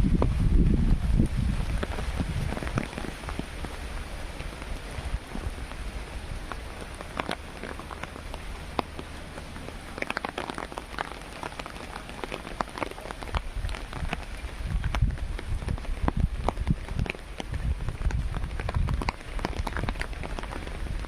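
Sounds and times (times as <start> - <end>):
rain hissing: 0.0 - 21.0
raindrops tapping: 0.0 - 21.0.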